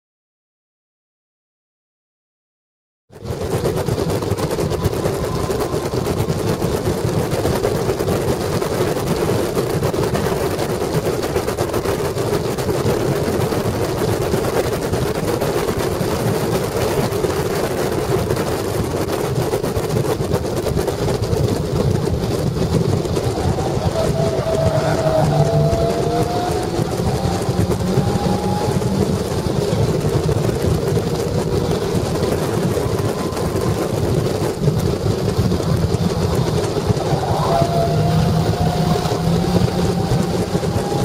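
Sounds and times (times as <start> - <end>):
wind noise: 3.1 - 41.0
car engine running hard: 3.2 - 15.8, 19.0 - 41.0.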